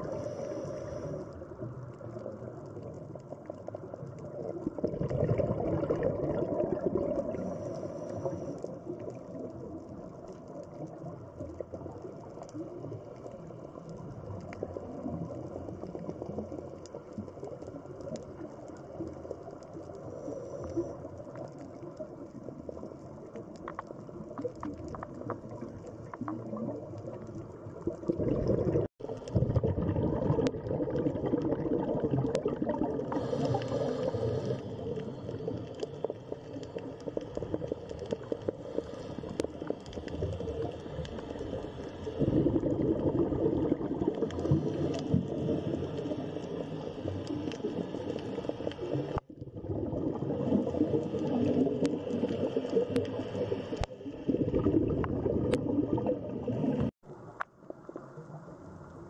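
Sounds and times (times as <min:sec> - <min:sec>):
underwater bubbling and gurgling: 0:00.0 - 0:59.0.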